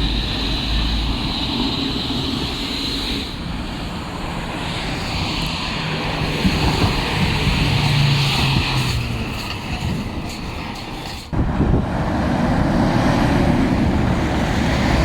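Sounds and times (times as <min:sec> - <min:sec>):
heavy machinery engines droning: 0:00.0 - 0:15.0.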